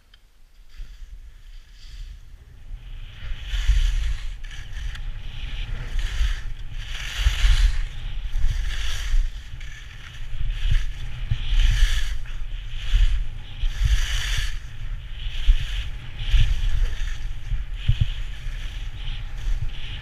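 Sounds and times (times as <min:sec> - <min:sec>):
skis scraping over snow: 0:00.5 - 0:20.0
wind buffeting microphone: 0:01.0 - 0:20.0.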